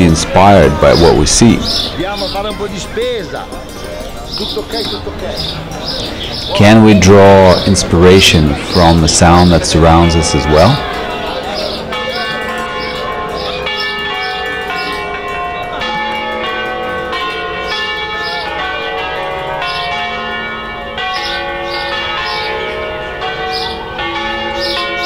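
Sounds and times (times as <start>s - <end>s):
church bells ringing in a peal: 0.0s - 25.0s.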